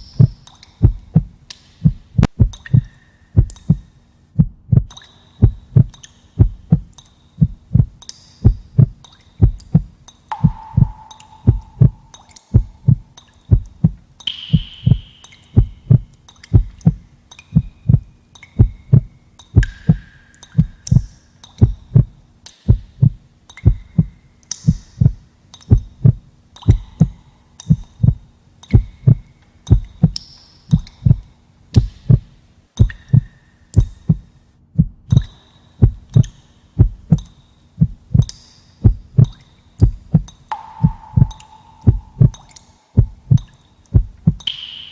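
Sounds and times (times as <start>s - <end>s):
heartbeat thumps: 0.0s - 44.5s.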